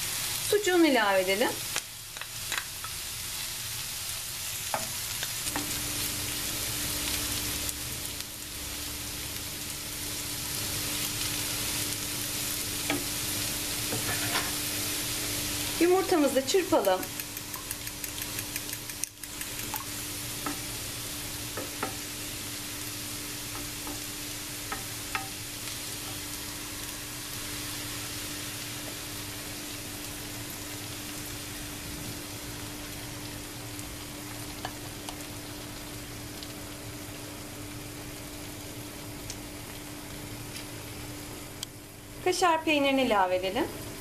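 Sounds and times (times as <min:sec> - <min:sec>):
food sizzling in oil: 0:00.0 - 0:44.0.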